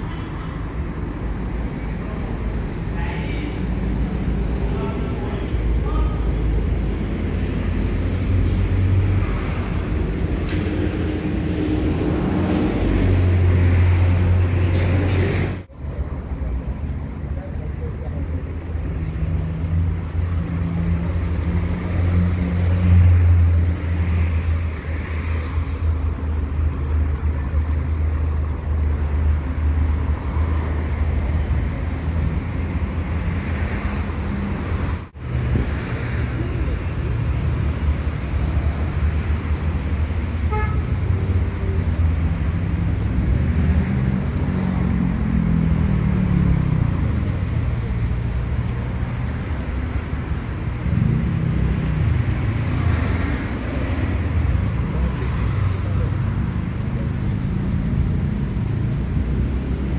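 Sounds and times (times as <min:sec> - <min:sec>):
traffic rumble: 0:00.0 - 0:59.9
vehicle passing: 0:02.2 - 0:59.9.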